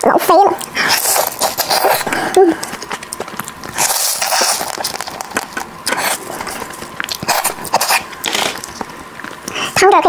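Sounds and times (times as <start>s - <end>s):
crackling clicks of eating: 0.5s - 10.0s
loud slurping: 0.7s - 8.8s.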